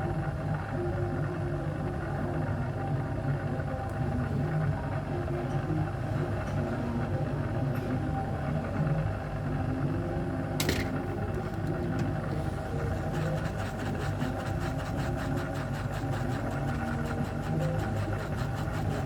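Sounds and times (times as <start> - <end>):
machine hum with low drone: 0.0 - 19.0.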